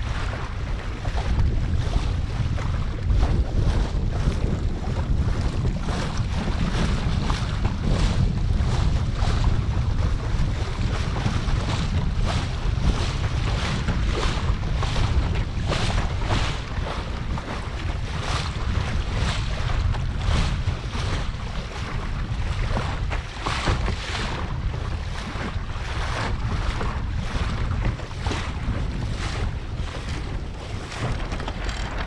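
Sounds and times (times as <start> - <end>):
water slapping against hull: 0.0 - 32.0
wind rumble on microphone: 0.0 - 32.0.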